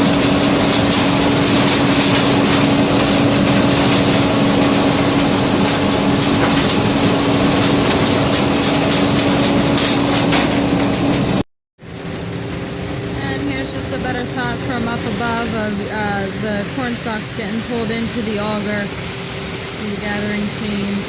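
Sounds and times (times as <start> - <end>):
combine engine humming: 0.0 - 21.0
light machinery rattling: 0.0 - 21.0.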